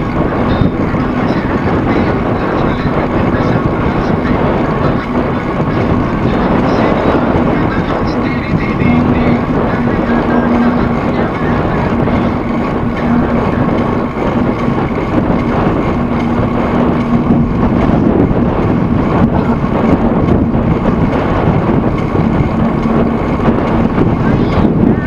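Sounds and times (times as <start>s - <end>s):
loud wind noise: 0.0s - 25.0s
vehicle engine droning: 0.0s - 25.0s.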